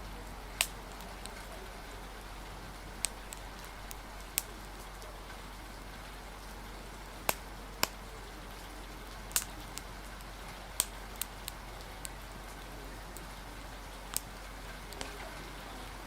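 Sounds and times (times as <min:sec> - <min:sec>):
rain hissing: 0:00.0 - 0:16.0
wind: 0:00.0 - 0:16.0
wood fire crackling and popping: 0:00.0 - 0:16.0.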